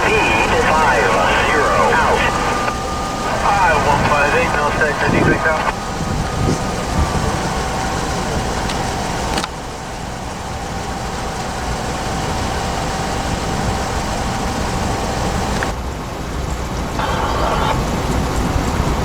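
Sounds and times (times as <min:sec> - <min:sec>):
faint steady tone: 0:00.0 - 0:15.4
vehicle engine rumble: 0:00.0 - 0:19.0.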